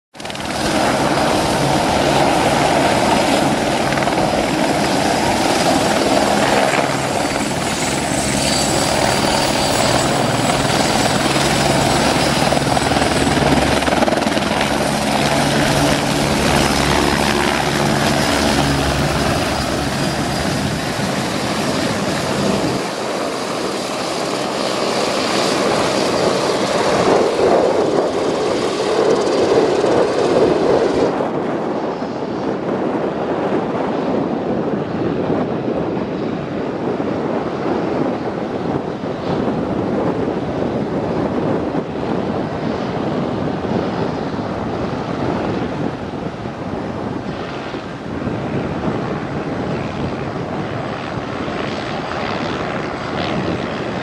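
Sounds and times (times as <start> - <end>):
helicopter rotor and turbines: 0.1 - 54.0.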